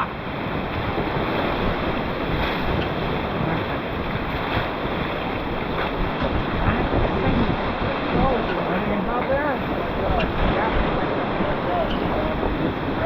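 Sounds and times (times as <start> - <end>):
river rapids rushing: 0.0 - 13.0
wind buffeting microphone: 0.0 - 13.0.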